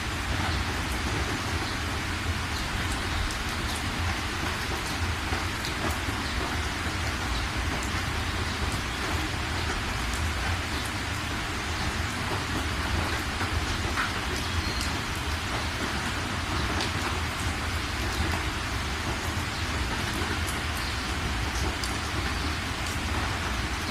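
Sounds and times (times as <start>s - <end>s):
steady rain falling: 0.0s - 23.9s
raindrops ticking: 0.1s - 23.9s.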